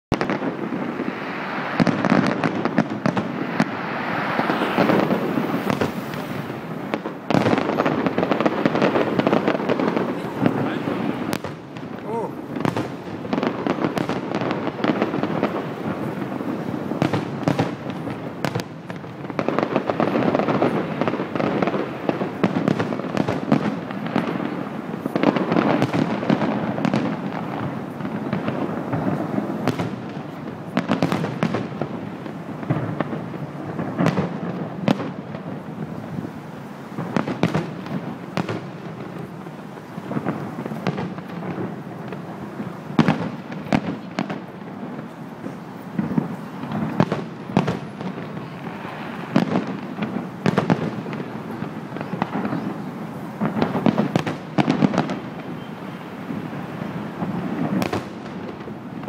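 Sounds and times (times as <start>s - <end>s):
fireworks bursting: 0.1s - 59.0s.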